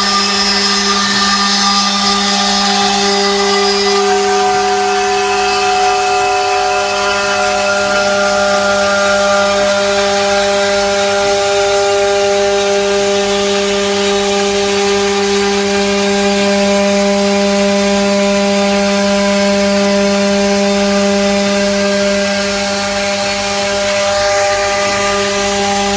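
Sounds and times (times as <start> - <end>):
machine humming: 0.0 - 25.9.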